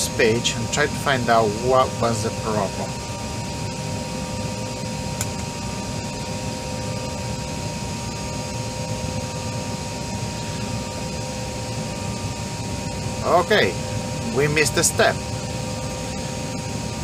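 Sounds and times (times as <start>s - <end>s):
ventilation fan rumble: 0.0s - 17.0s.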